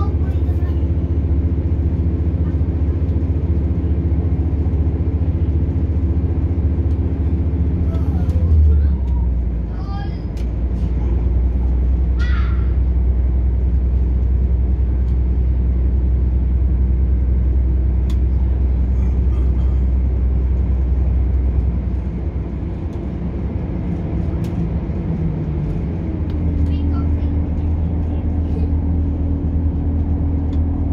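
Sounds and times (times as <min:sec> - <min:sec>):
train diesel engine rumble: 0:00.0 - 0:30.9
wheels on rail: 0:00.0 - 0:30.9.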